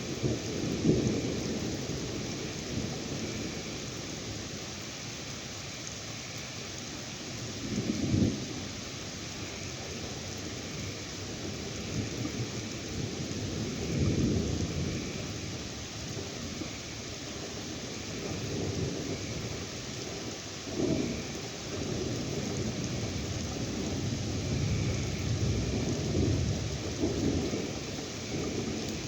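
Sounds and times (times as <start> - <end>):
low thunder rumbling: 0.0 - 4.6, 7.3 - 29.0
steady rain: 0.0 - 29.0.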